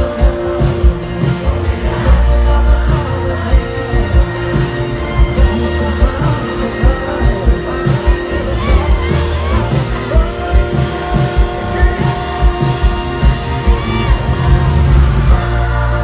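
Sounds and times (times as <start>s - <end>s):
live pop band music: 0.0s - 16.0s
person singing: 0.0s - 16.0s.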